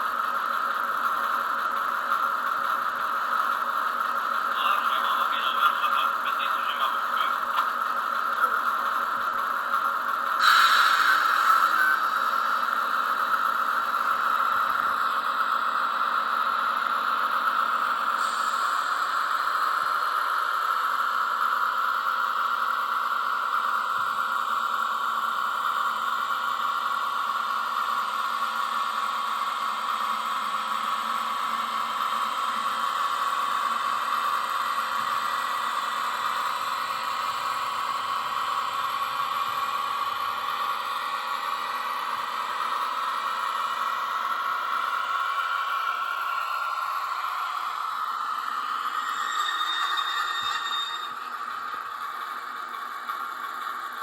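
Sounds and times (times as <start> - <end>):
diesel engine through small speaker: 0.0 - 54.0.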